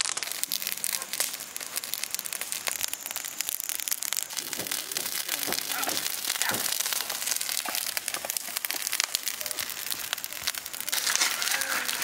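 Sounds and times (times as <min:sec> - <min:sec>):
charcoal fire crackling: 0:00.0 - 0:12.0.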